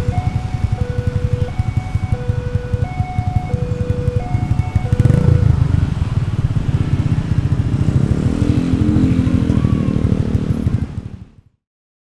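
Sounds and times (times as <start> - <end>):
motorcycle engine running: 0.0 - 11.5
passing traffic: 0.0 - 11.6.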